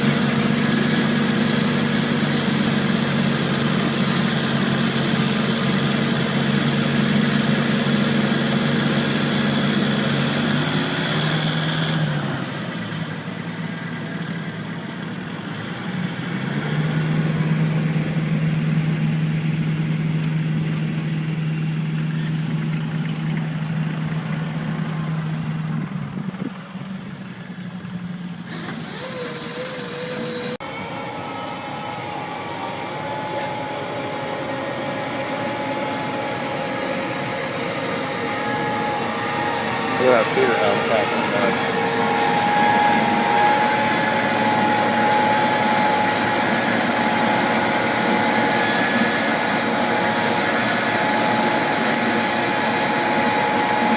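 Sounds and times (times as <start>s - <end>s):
machinery engines humming: 0.0s - 53.9s.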